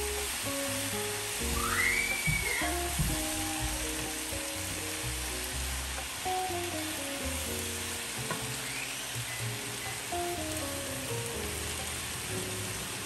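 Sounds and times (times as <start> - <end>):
background music: 0.0 - 13.0
cabbage sizzling in a skillet: 0.0 - 13.0.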